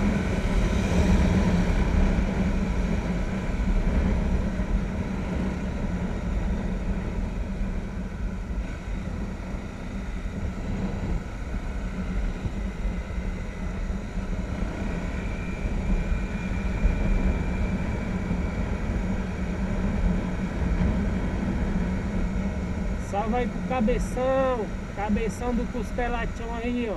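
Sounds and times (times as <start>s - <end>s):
wind and road noise: 0.0s - 26.9s.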